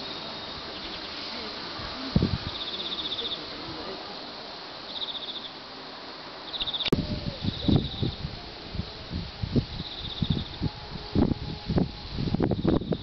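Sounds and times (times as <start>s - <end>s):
insects chirping: 0.0s - 8.4s, 9.6s - 10.8s, 11.7s - 13.0s
outdoor background hiss: 0.0s - 13.0s.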